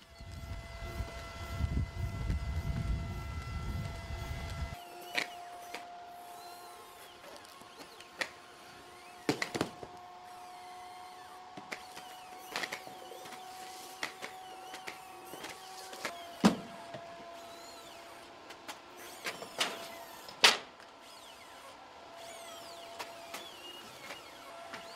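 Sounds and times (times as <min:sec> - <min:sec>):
robot hydraulics whining: 0:00.0 - 0:18.3, 0:19.0 - 0:24.9.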